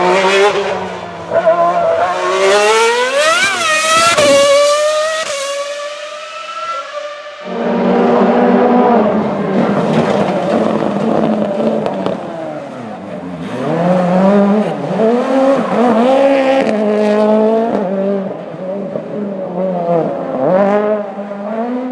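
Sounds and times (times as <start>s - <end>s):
racing car engine revving: 0.0s - 21.9s.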